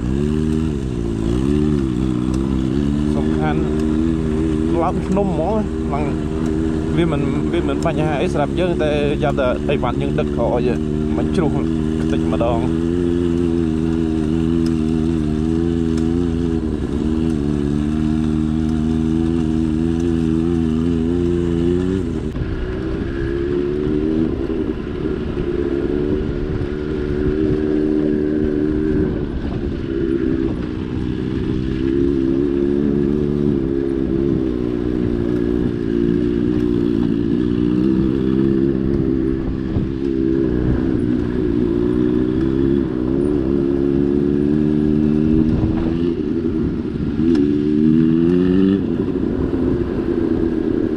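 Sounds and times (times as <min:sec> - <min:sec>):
motorcycle engine under load: 0:00.0 - 0:50.9.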